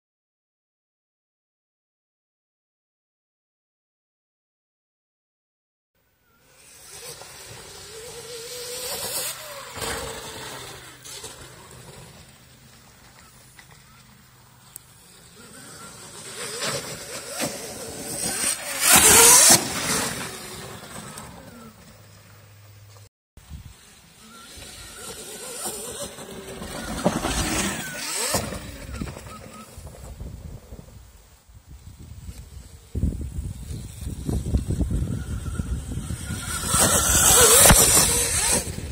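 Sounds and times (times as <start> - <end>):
electric dirt bike passing: 6.2 - 38.9
electric motorbike whining past: 6.3 - 31.4, 32.0 - 38.9.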